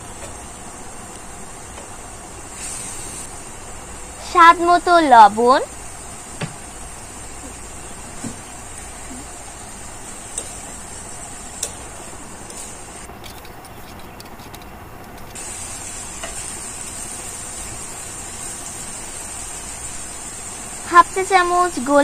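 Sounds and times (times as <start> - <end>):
food sizzling in frying pan: 0.0 - 13.2, 15.3 - 22.0.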